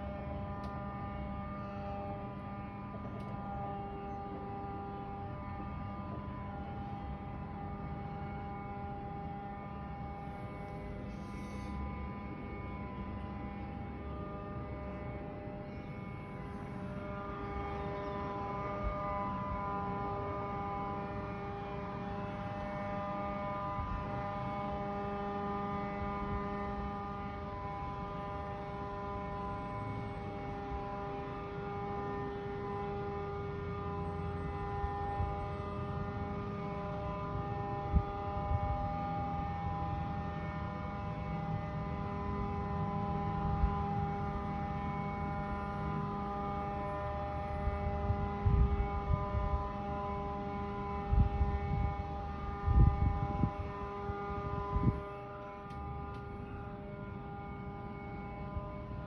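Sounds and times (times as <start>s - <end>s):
steady drone of held tones: 0.0s - 59.0s.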